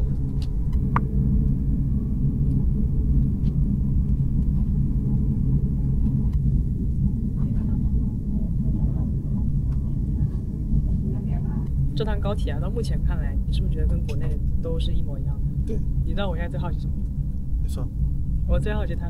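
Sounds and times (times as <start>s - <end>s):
train carriage low rumble: 0.0s - 19.0s.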